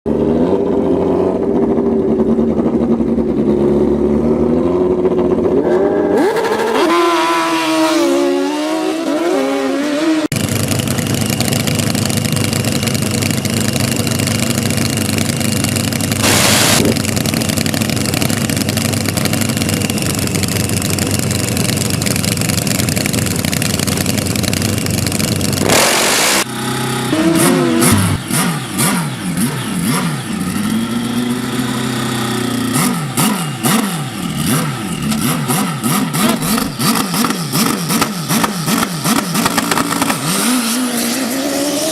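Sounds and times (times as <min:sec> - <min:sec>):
motorcycle engines revving: 0:00.1 - 0:41.9.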